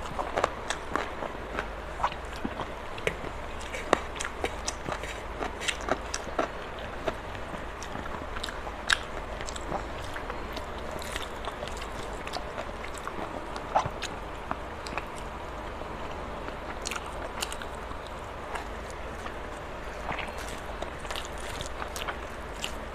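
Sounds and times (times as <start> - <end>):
chewing and biting food: 0.0 - 15.4, 16.0 - 22.9.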